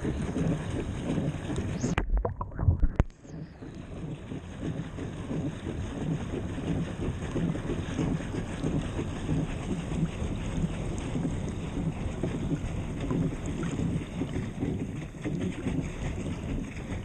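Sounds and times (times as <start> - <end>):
muffled underwater thumps: 0.0 - 17.0
water splashing against boat hull: 0.0 - 17.0.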